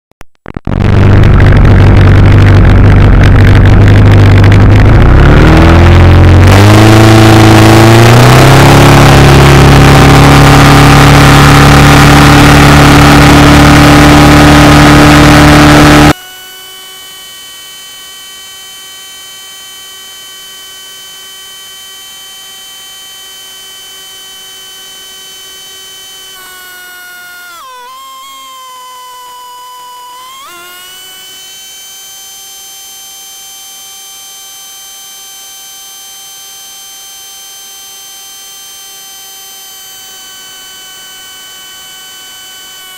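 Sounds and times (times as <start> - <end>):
outboard motor revving: 0.7 - 16.4, 20.5 - 42.9
steady whine of held tones: 0.7 - 42.9.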